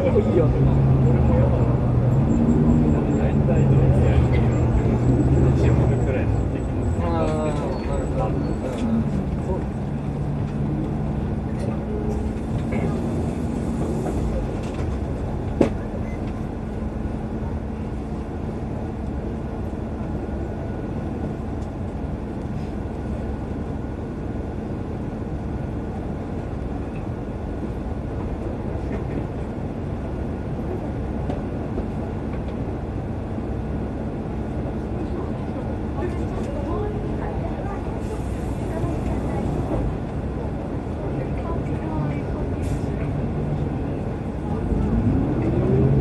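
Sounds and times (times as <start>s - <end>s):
bus engine rumble: 0.0s - 46.0s
road noise inside cabin: 0.0s - 46.0s.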